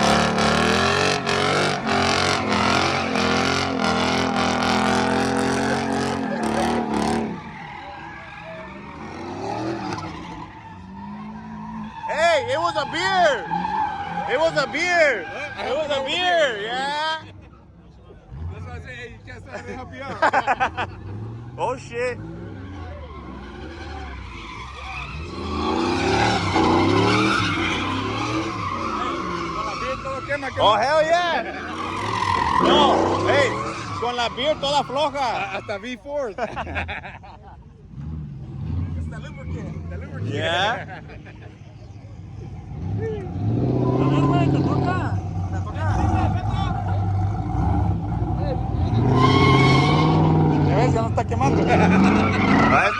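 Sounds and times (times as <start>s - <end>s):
truck engine revving: 0.0s - 16.8s, 18.2s - 37.1s, 37.8s - 52.9s
tires spinning on pavement: 0.0s - 52.9s.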